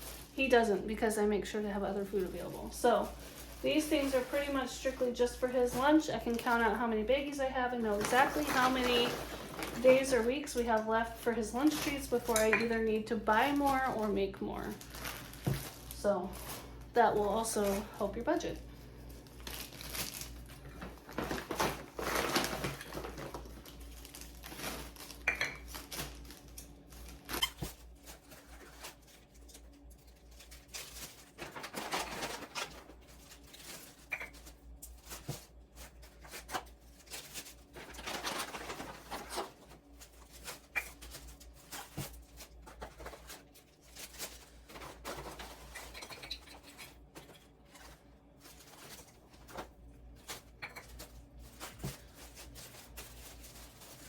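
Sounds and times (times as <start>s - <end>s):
plastic baggies rustling: 0.0s - 54.0s.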